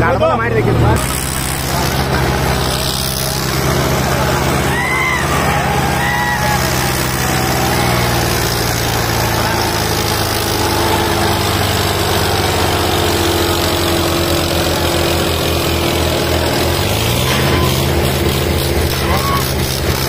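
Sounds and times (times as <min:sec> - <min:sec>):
diesel tractor engines labouring: 0:00.0 - 0:20.0.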